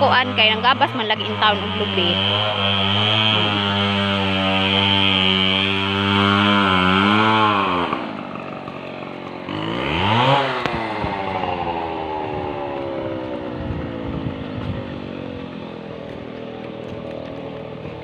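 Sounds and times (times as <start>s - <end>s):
small motorcycle engine revving: 0.0s - 18.0s.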